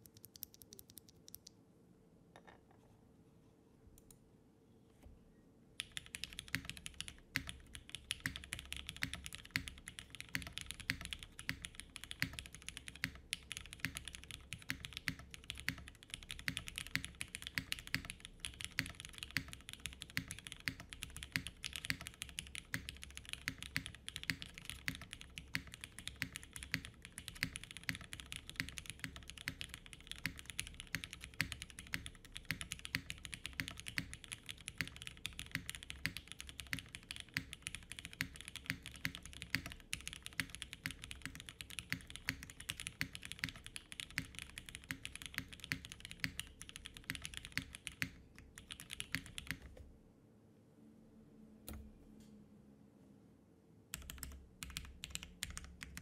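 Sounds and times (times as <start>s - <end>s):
mechanical keyboard typing: 0.0s - 1.5s, 5.8s - 49.8s, 53.9s - 56.0s.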